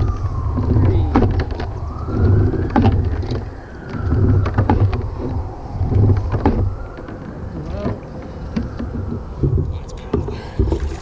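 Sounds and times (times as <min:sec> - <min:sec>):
distant siren wailing: 0:00.0 - 0:10.9
sharp clicks and knocks: 0:00.0 - 0:11.0
wind buffeting microphone: 0:00.0 - 0:11.0.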